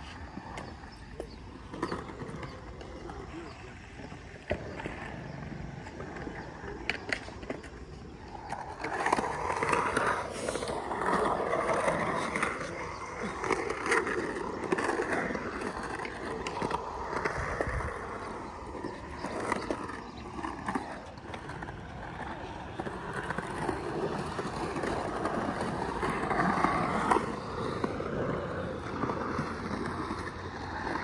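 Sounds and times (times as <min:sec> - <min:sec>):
skateboard clicks: 0:00.0 - 0:31.0
skateboard wheels rolling on concrete: 0:00.0 - 0:31.0.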